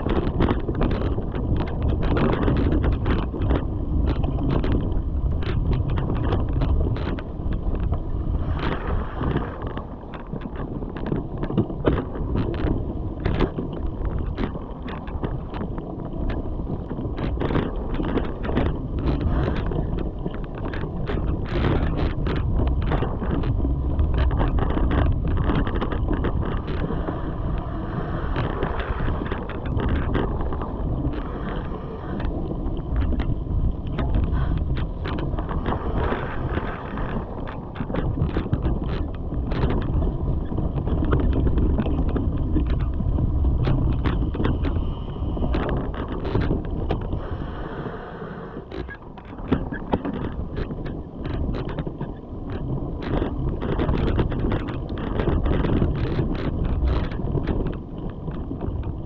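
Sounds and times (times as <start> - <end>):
bike tyres rolling over leaves: 0.0 - 47.3, 48.7 - 59.0
wind on microphone: 0.0 - 59.0.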